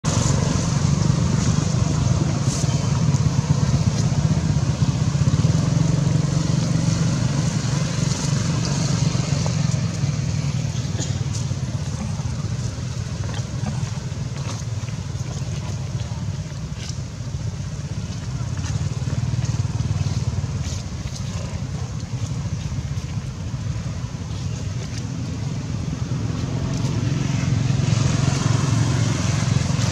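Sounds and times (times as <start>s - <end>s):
low engine drone: 0.0s - 29.9s.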